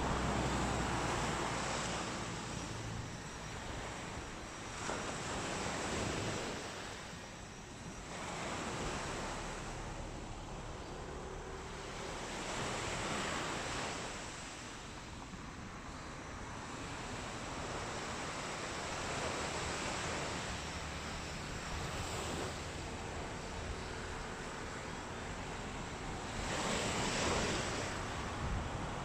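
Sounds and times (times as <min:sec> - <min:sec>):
waves breaking on a beach: 0:00.0 - 0:29.0.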